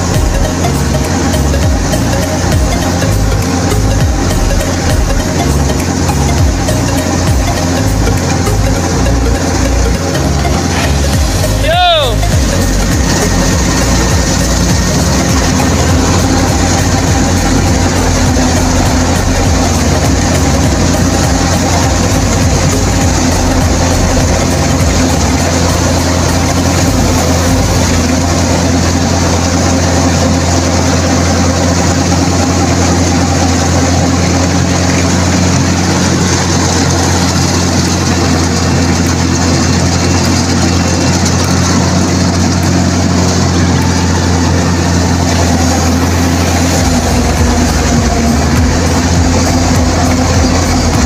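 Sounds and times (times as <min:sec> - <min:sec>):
combine harvester engine hum: 0:00.0 - 0:51.0.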